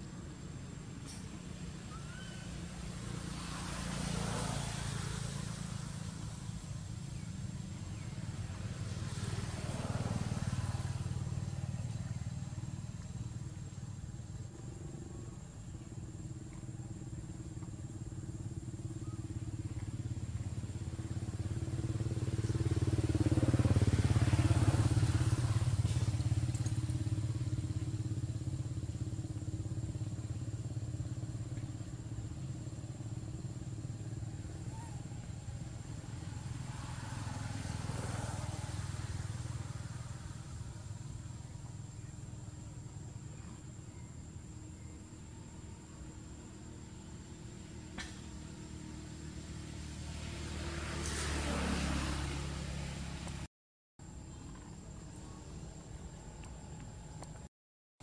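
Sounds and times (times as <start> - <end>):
passing vehicles engine hum: 0.0 - 57.5.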